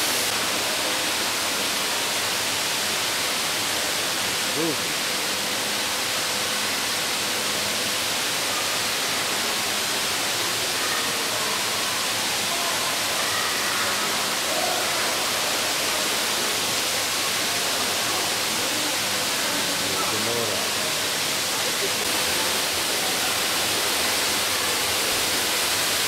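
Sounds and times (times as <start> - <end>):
faint distant voices: 0.3 - 26.0.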